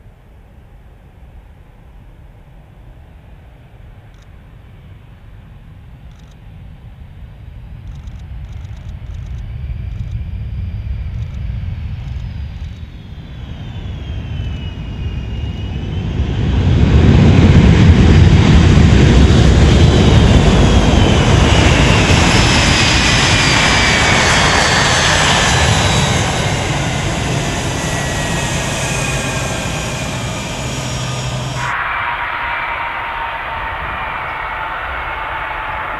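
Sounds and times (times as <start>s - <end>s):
jet engines rumbling with whine: 0.0s - 35.9s.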